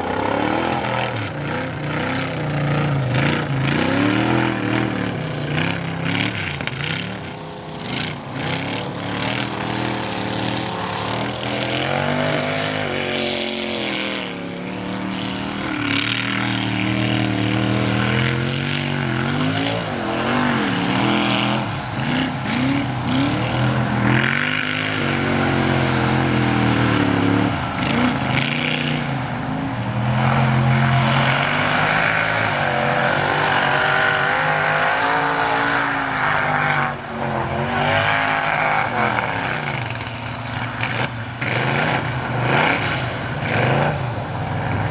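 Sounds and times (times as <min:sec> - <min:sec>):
truck engine revving hard: 0:00.0 - 0:44.9.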